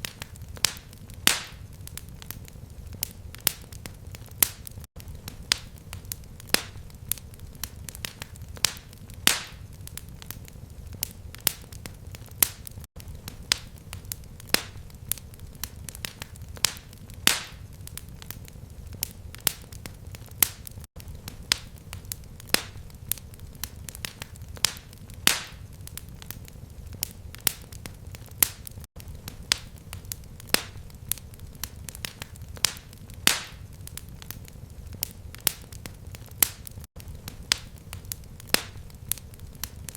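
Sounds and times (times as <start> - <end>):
fireplace fire crackling: 0.0 - 39.9
low rumble of flames: 0.0 - 39.9.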